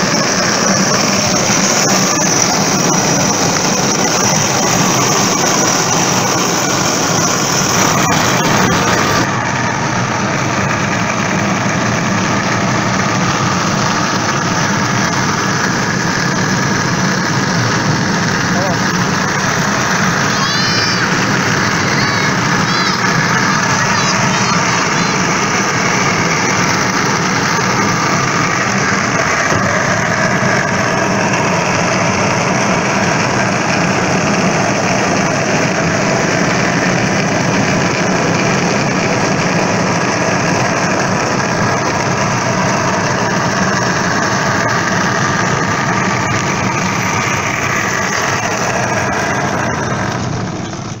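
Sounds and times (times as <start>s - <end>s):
cart wheels grinding rumble: 0.0s - 51.0s.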